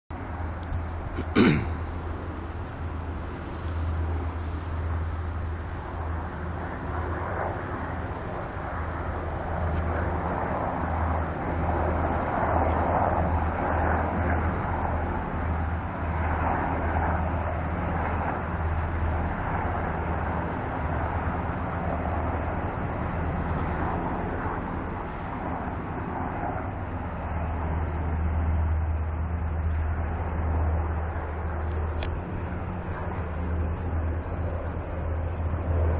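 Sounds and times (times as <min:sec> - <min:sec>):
helicopter rotor drone: 0:00.1 - 0:35.9.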